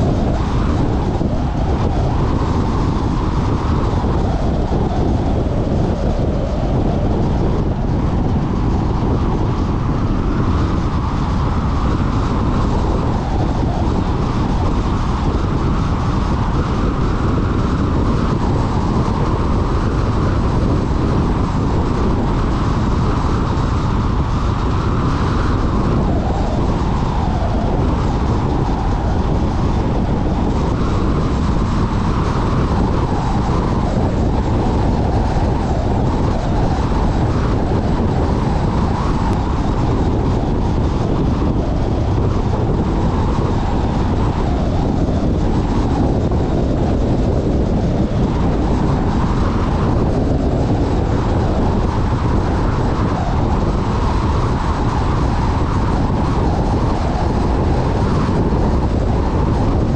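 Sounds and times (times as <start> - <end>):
car tyre and wind noise: 0.0 - 59.9.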